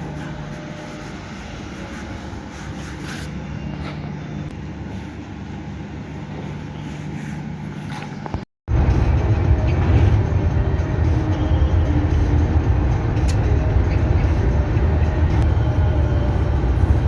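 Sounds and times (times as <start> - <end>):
vehicle engine hum and road noise: 0.0 - 17.0.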